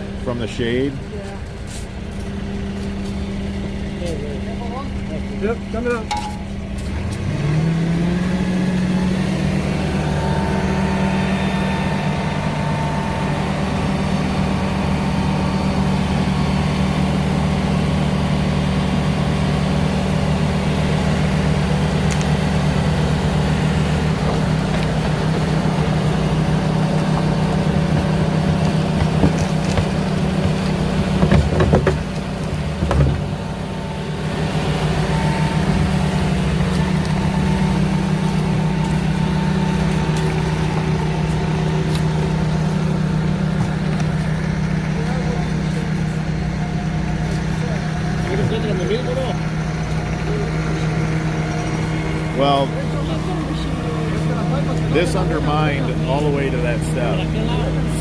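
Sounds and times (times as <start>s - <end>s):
excavator engine revving: 0.0s - 58.0s.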